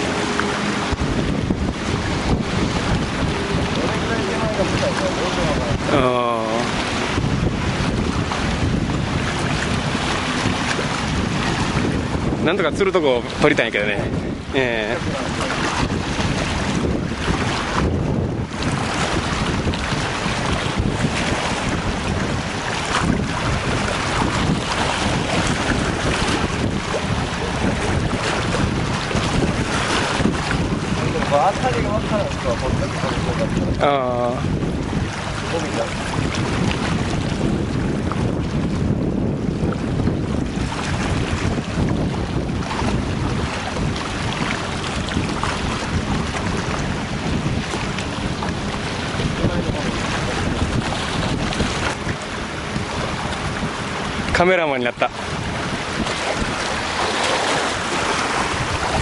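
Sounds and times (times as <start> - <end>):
water washing against rocky shore: 0.0 - 59.0
wind buffeting microphone: 0.0 - 59.0.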